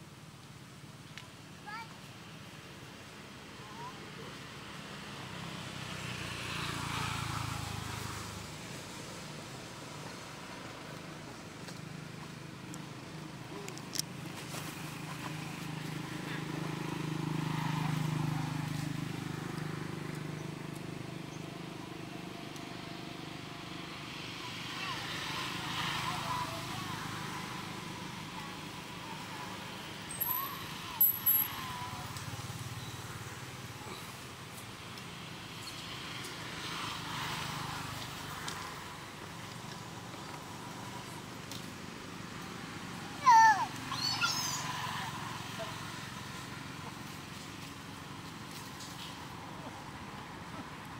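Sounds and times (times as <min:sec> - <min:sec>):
outdoor background rush: 0:00.0 - 0:50.9.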